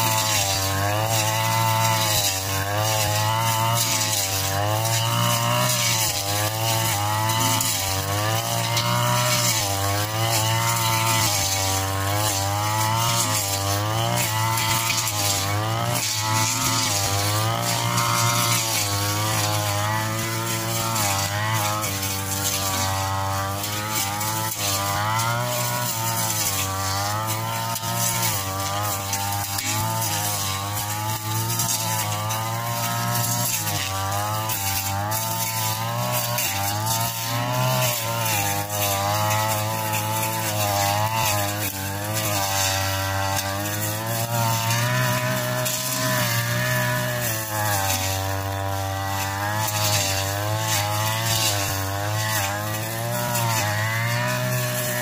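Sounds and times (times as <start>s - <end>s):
brush cutter engine cutting grass: 0.0s - 55.0s.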